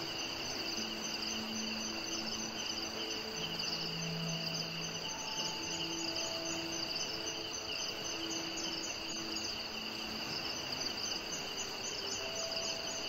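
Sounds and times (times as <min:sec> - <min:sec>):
crickets trilling: 0:00.0 - 0:13.0
soft background music: 0:00.0 - 0:13.0.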